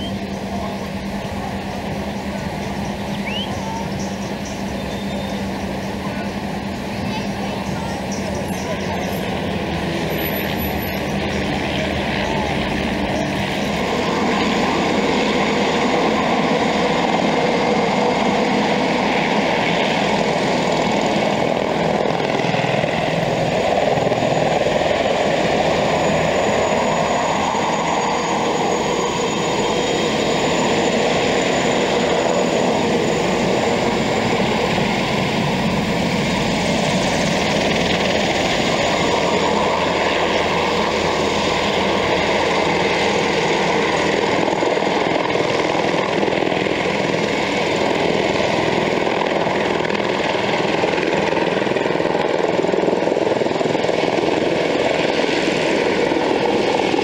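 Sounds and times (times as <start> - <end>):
helicopter rotors and turbines: 0.0 - 57.0
high turbine whine: 0.0 - 57.0.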